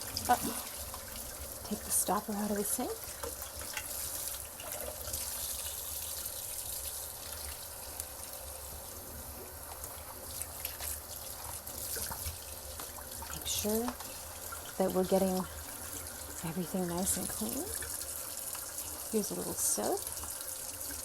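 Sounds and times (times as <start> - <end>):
tap water running into sink: 0.0 - 21.0.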